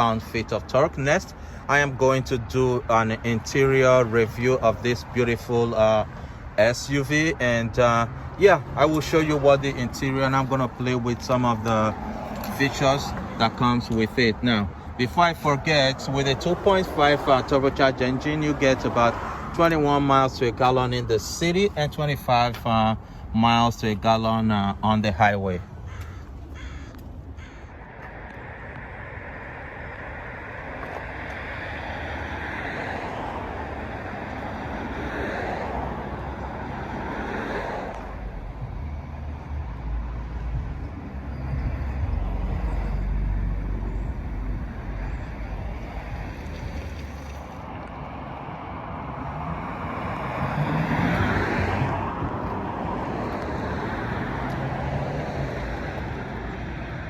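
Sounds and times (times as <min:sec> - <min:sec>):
low traffic rumble: 0:00.0 - 0:57.0
vehicles passing by: 0:00.0 - 0:57.0.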